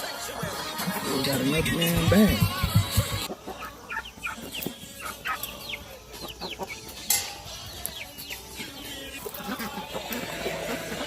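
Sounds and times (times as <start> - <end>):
chickens calling: 0.0 - 11.0.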